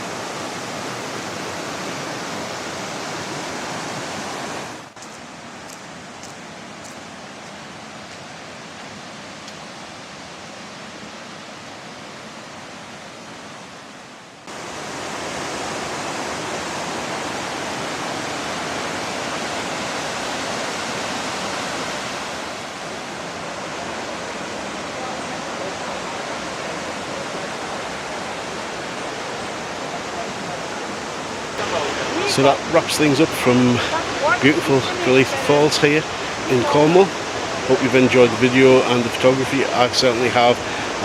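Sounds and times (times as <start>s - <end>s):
waterfall rushing over boulders: 0.0s - 41.0s.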